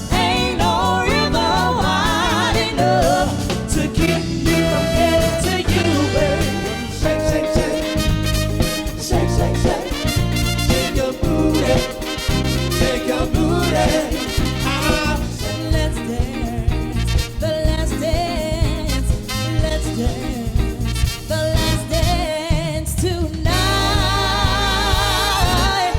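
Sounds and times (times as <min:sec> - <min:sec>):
upbeat soul music with singing: 0:00.0 - 0:25.9.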